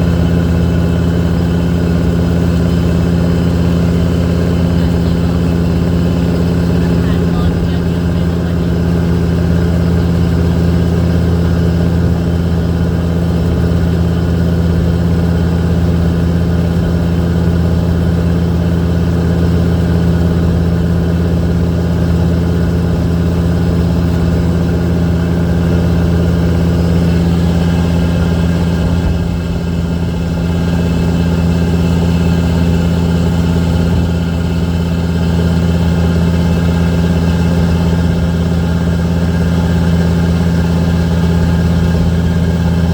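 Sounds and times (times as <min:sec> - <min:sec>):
boat engine running: 0:00.0 - 0:42.9.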